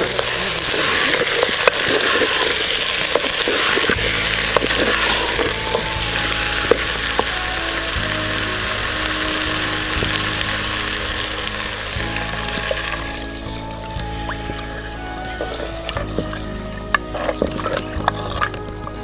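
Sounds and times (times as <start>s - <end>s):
vegetables sizzling in a pot: 0.0s - 17.6s
soft background music: 0.0s - 19.0s.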